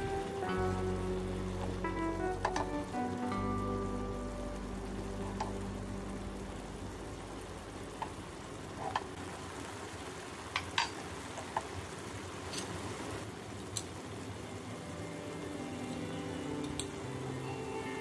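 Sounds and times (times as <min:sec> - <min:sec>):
sauce sizzling in a pan: 0:00.0 - 0:18.0.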